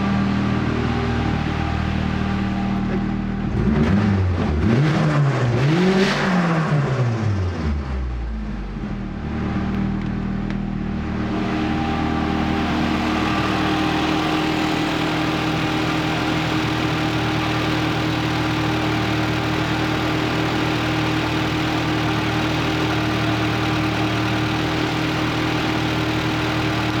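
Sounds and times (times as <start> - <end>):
car engine idling: 0.0 - 4.0, 8.3 - 27.0.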